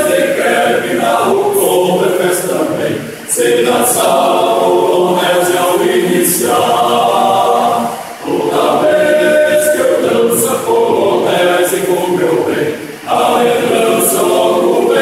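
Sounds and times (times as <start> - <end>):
men's choir singing a cappella: 0.0 - 15.0.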